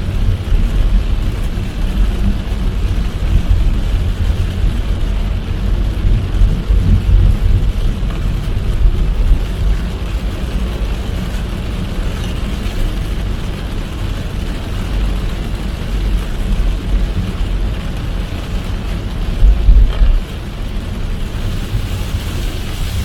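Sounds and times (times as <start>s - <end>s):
car tyres rumbling on wet road: 0.0s - 23.0s
rain and spray hissing: 0.0s - 23.0s.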